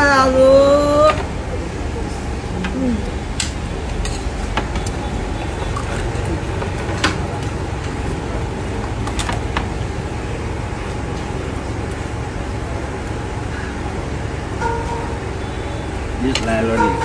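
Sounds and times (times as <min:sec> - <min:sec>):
low rumbling traffic noise: 0:00.0 - 0:17.0.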